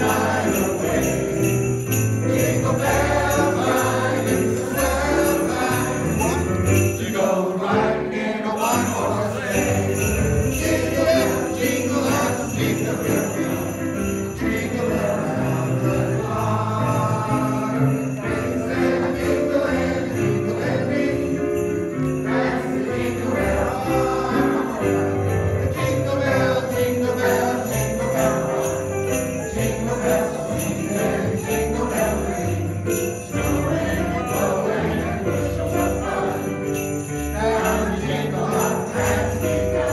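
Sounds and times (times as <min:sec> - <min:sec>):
sleigh bells jingling: 0:00.0 - 0:07.6, 0:08.5 - 0:39.9
choir singing christmas song: 0:00.0 - 0:39.9.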